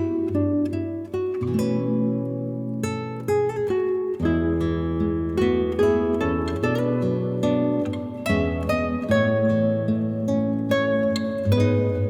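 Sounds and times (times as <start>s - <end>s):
plucked string instrumental music: 0.0s - 12.0s.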